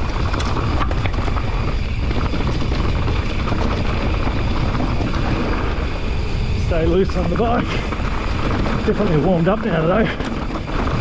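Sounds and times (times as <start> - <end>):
bike clicks and rattles: 0.0 - 11.0
bike tyres on dirt and stones: 0.0 - 11.0.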